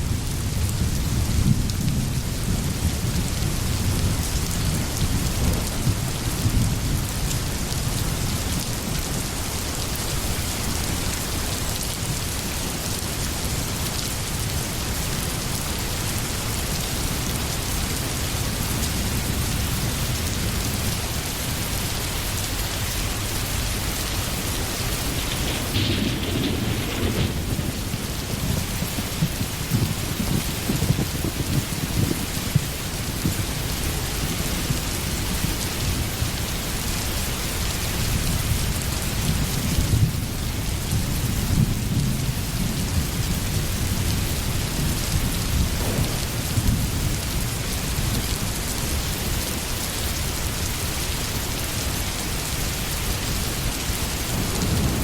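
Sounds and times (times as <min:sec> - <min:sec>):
low rumble of thunder: 0:00.0 - 0:50.7, 0:52.7 - 0:55.0
rain pouring: 0:00.0 - 0:55.0.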